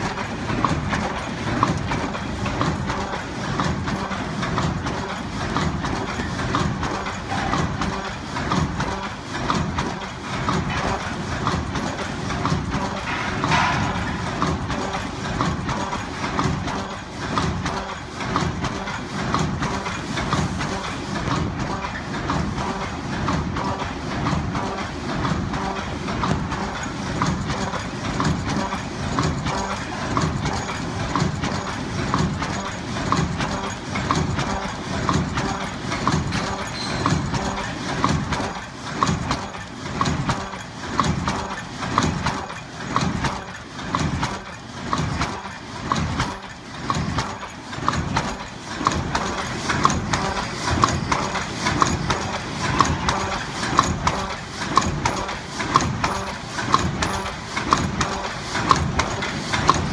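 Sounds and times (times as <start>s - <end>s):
cup forming machine clatter: 0.0s - 59.9s.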